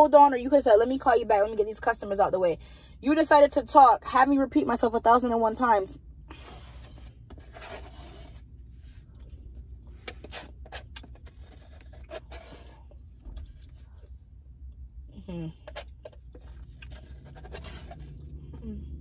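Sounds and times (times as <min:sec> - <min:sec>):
low hum inside car: 0:00.0 - 0:19.0.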